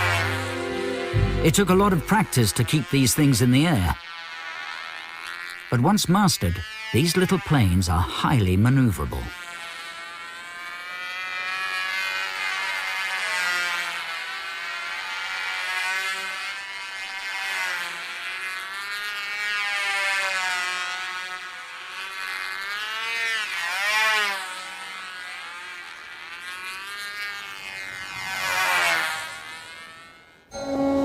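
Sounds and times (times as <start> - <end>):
model plane propeller motors: 0.0 - 0.7, 1.5 - 31.0.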